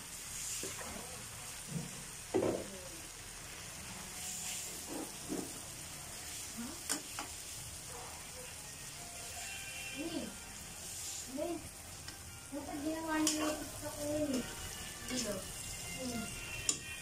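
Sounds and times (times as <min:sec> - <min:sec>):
shrimp sizzling in butter: 0:00.0 - 0:17.0.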